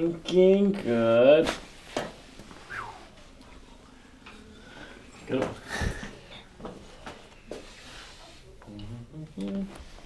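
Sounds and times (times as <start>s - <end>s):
faint movement noises: 0.0s - 10.0s.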